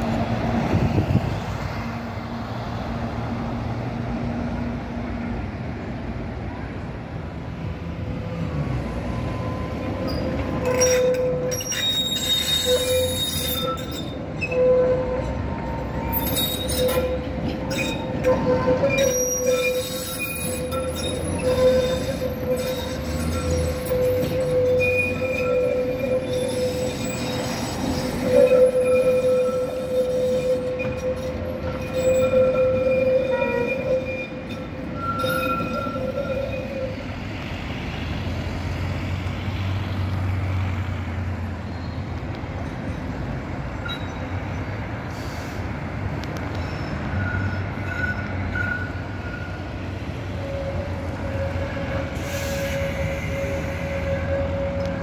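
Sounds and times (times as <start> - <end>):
passing road traffic: 0.0 - 55.0
tram rolling past: 0.0 - 55.0
tram wheels squealing on rails: 0.0 - 55.0.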